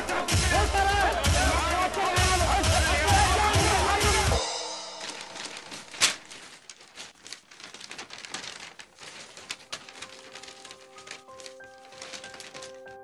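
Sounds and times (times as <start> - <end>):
paper crinkling and rustling: 1.7 - 13.0.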